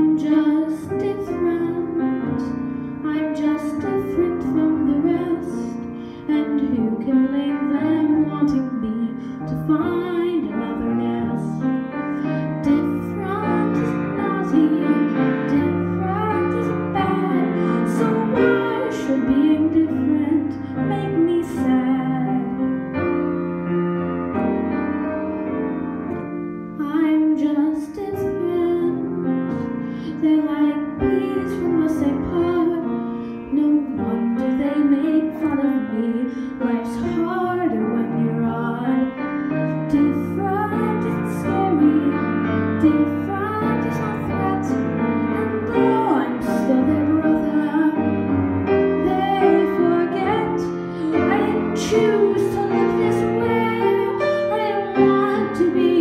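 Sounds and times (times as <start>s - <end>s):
piano accompaniment: 0.0s - 56.0s.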